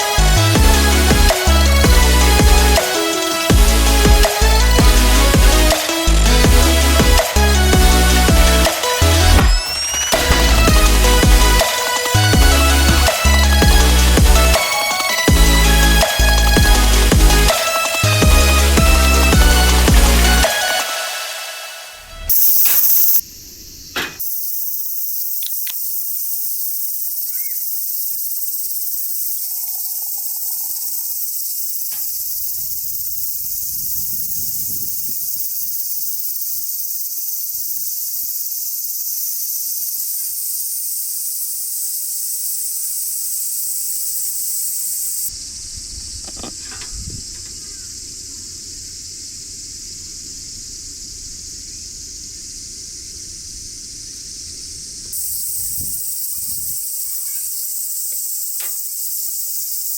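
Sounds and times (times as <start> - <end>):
high-pitched insect chorus: 0.0 - 59.9
hiss: 2.6 - 6.4, 7.2 - 12.3, 13.0 - 16.6, 19.0 - 59.9.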